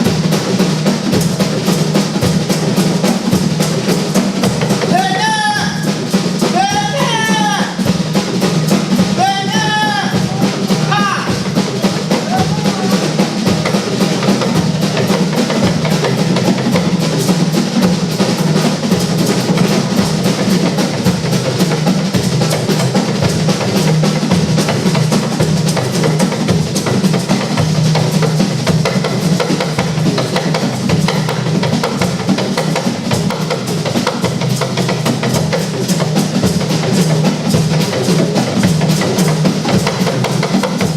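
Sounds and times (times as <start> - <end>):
drum and percussion beat: 0.0 - 40.9.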